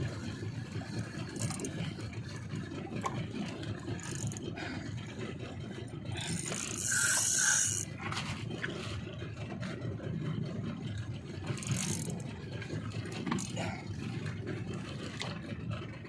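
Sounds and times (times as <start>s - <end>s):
fishing reel whirring and scraping: 0.0s - 15.6s
boat engine rumble: 0.0s - 16.0s.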